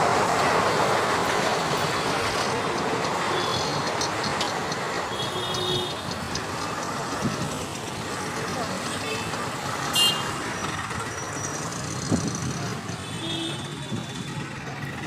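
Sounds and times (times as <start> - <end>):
rumbling traffic noise: 0.0 - 15.0.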